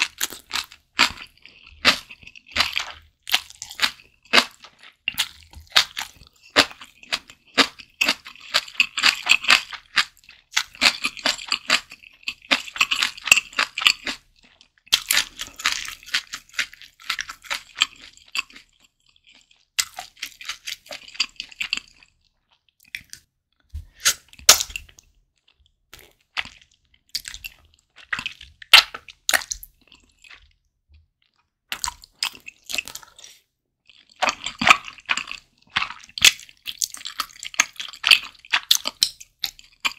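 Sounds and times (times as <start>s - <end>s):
close chewing with crunching: 0.0s - 39.9s.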